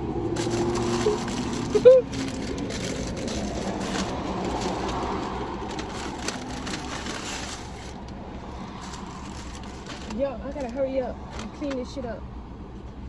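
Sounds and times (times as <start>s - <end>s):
car interior hum: 0.0s - 13.0s
food wrapper rustling: 0.3s - 11.4s.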